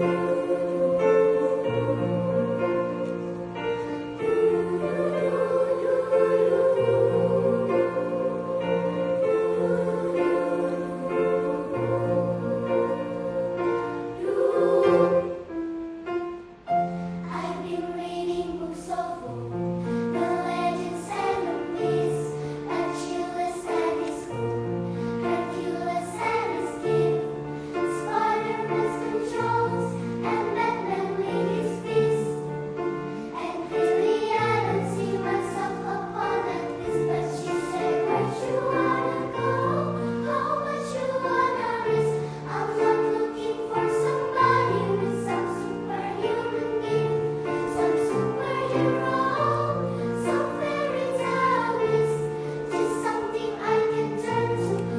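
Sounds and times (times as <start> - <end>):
choir singing: 0.0 - 15.8, 16.7 - 54.9.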